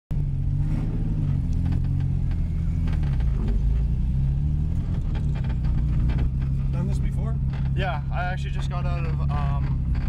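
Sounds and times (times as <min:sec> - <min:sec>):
car engine at low revs: 0:00.1 - 0:10.0.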